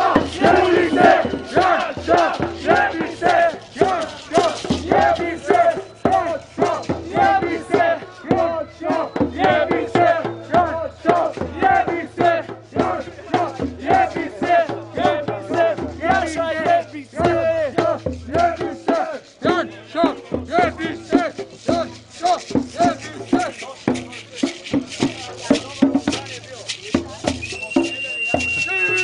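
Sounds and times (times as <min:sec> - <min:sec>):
voices chanting rhythmically: 0:00.0 - 0:26.3.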